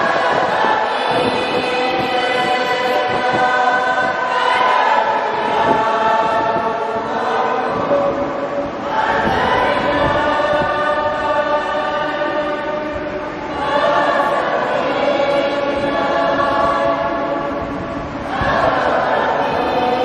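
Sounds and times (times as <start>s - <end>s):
choir singing a hymn: 0.0s - 20.0s.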